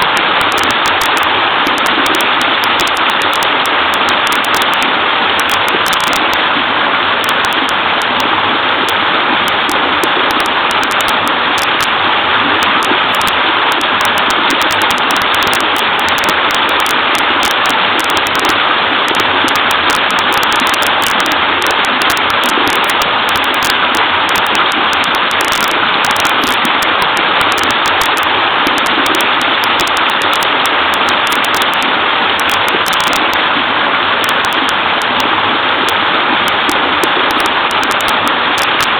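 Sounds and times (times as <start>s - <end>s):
water babbling and splashing: 0.0s - 38.9s.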